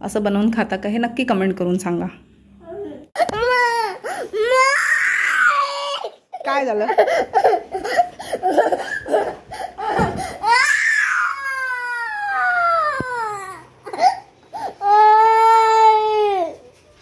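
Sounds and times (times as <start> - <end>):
girl crying: 2.7 - 16.6.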